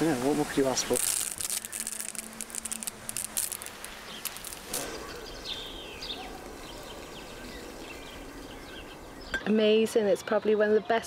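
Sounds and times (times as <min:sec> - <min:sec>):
faint steady hiss: 0:00.0 - 0:10.8
small birds chirping: 0:00.0 - 0:11.0.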